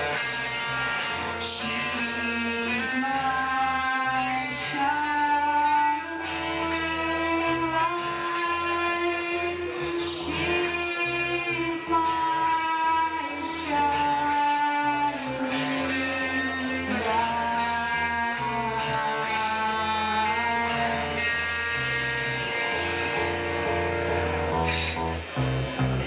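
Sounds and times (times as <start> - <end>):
bass guitar: 0.0 - 26.0
electric guitar: 0.0 - 26.0.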